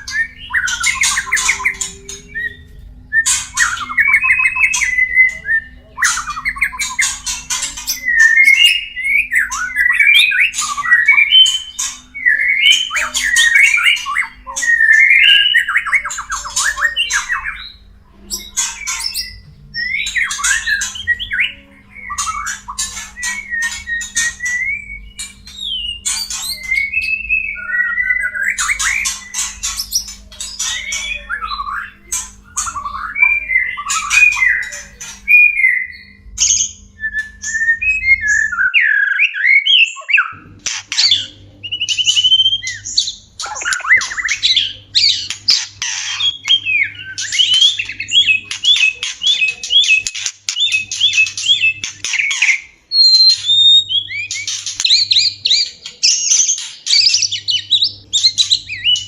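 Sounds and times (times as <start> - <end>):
bird repeated notes: 0.0 - 59.0
birds whistling and squawking: 0.0 - 59.0.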